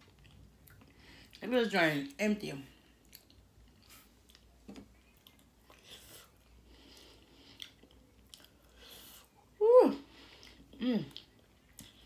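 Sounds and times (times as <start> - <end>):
faint chewing: 0.0 - 1.4, 2.7 - 9.4, 10.1 - 12.0.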